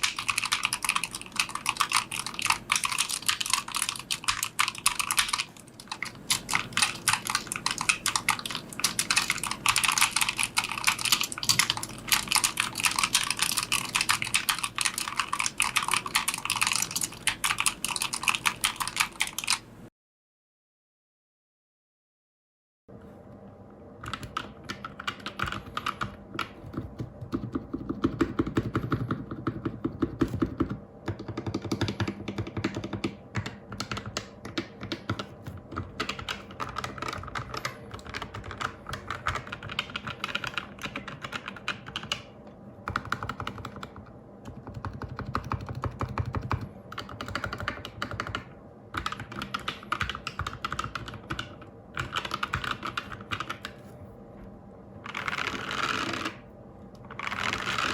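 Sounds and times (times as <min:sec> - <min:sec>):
fast typing on mechanical keyboard: 0:00.0 - 0:19.7, 0:24.0 - 0:53.8, 0:55.1 - 0:56.4, 0:57.1 - 0:57.9.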